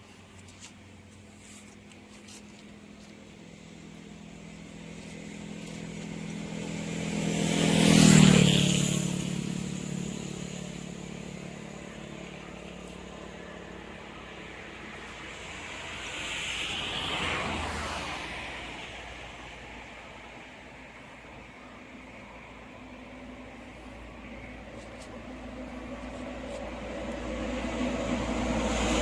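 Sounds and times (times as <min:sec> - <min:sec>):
motor vehicle passing by: 0:01.4 - 0:29.0.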